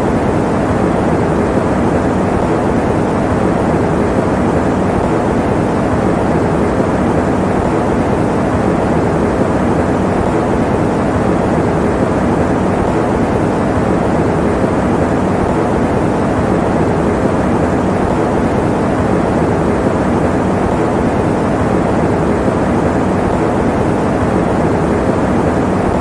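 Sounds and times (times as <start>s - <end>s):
electric fan running: 0.0s - 26.0s.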